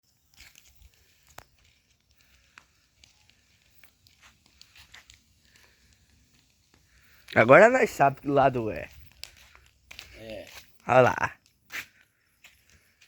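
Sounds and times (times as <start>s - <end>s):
faint clicks and crackles: 0.1s - 13.0s.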